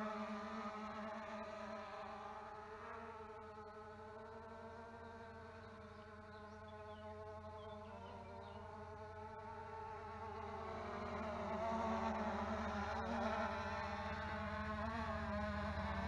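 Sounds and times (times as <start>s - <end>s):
quadcopter propellers buzzing: 0.0s - 16.0s.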